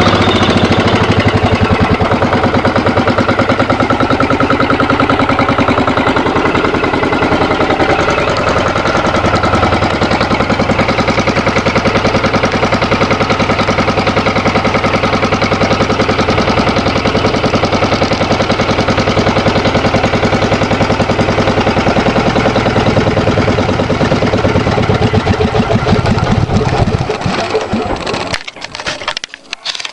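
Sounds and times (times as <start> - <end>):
diesel engine running and stopping: 0.0 - 29.9.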